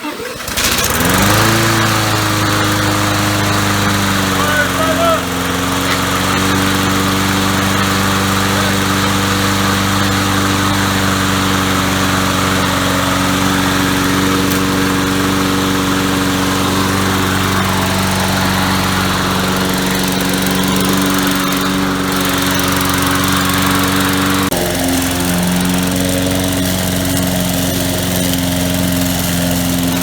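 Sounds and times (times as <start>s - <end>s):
lawnmower engine running: 0.0s - 30.0s.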